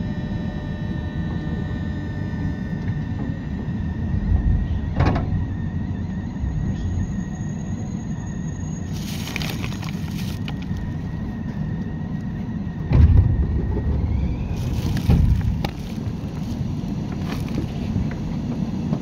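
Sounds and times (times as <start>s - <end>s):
high electrical whine: 0.0s - 19.0s.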